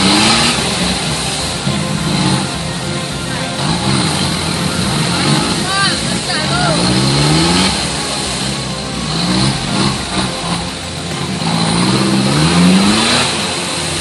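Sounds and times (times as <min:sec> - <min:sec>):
off-road engine revving hard: 0:00.0 - 0:14.0.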